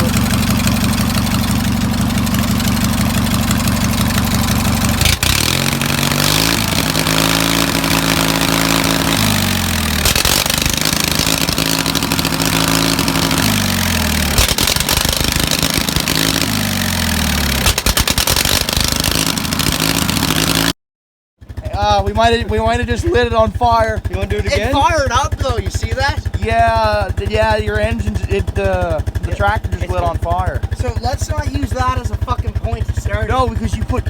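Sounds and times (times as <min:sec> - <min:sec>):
tractor engine revving: 0:00.0 - 0:20.7, 0:21.5 - 0:34.0.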